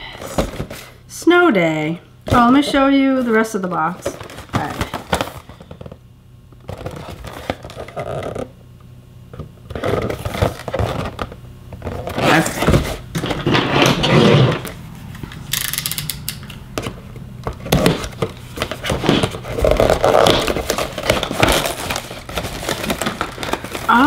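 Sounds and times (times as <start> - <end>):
packaging rustling and scraping: 0.0 - 1.0, 2.3 - 8.5, 9.4 - 16.0, 16.8 - 24.0.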